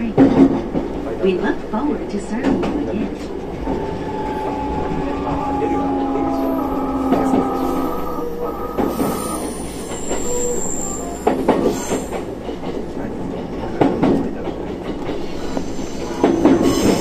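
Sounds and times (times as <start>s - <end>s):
clacks over rail joints: 0.0s - 8.1s, 11.2s - 17.0s
train wheels rumbling on rail: 0.0s - 17.0s.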